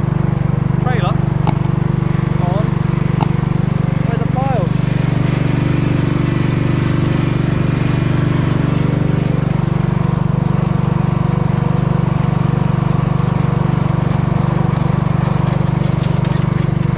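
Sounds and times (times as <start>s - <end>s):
engine running steadily: 0.0s - 16.9s.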